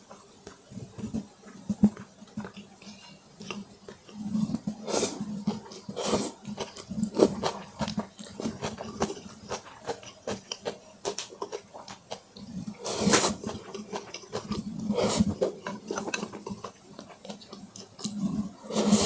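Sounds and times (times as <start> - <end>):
wet mouth chewing: 1.8 - 19.0.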